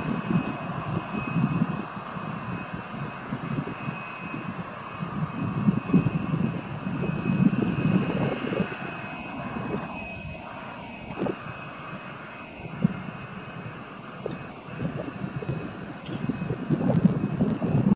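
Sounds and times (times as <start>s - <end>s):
thin high whine: 0.0s - 17.9s
turboprop engines rumbling: 0.0s - 17.9s.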